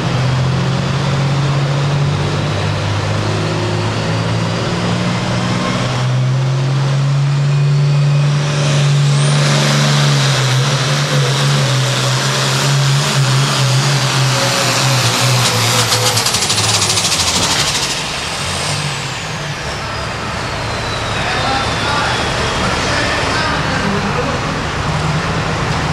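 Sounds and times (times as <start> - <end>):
tractor diesel engine under load: 0.0 - 25.9
turbocharger whine: 0.0 - 25.9.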